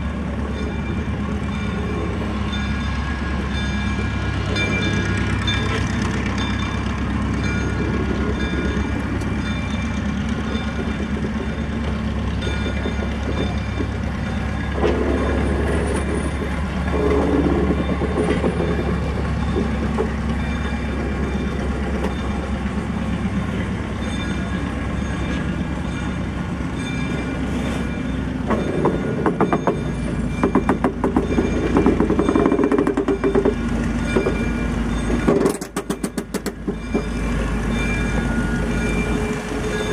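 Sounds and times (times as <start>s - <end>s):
locomotive engine running: 0.0s - 39.9s
train wheels clicking over rail joints: 0.0s - 39.9s.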